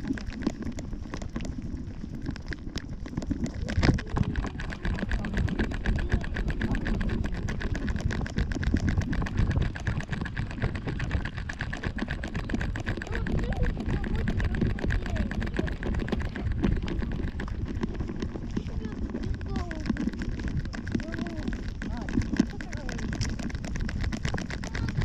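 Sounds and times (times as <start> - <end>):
camera rumble and rustle: 0.0 - 25.0.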